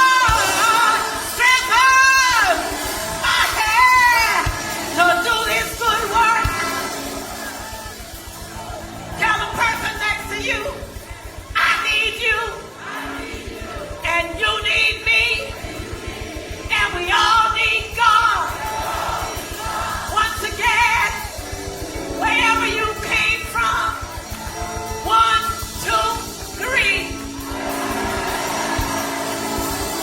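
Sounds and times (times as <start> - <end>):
musical accompaniment: 0.0 - 30.0
voices singing gospel: 0.0 - 30.0.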